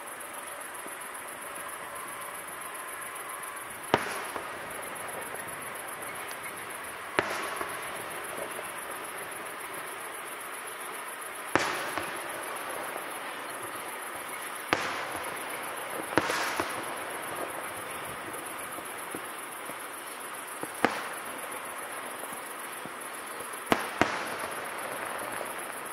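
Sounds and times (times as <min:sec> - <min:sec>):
firework shells bursting: 0:01.9 - 0:25.9.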